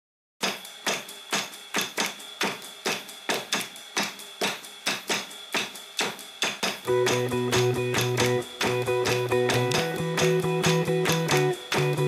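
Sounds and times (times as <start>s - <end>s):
sharp percussive clicks: 0.4s - 12.0s.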